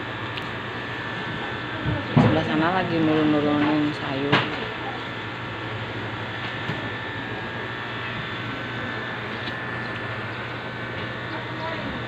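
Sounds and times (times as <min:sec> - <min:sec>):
mechanical hum with high whine: 0:00.0 - 0:12.0.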